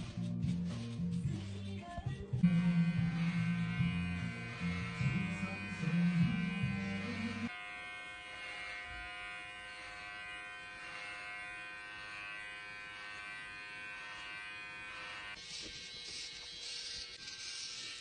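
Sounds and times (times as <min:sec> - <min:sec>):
electric hair clipper buzzing: 0:02.4 - 0:18.0.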